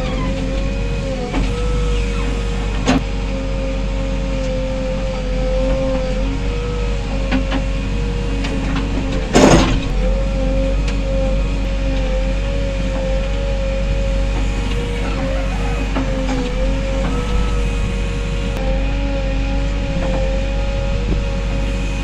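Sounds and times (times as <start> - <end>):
bulldozer engine running: 0.0 - 22.0.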